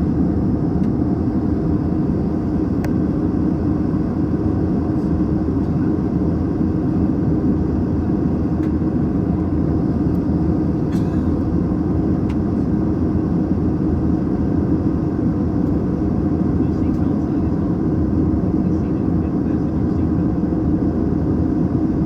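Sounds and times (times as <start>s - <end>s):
constant low hum: 0.0s - 22.0s
jet engine cabin roar: 0.0s - 22.0s.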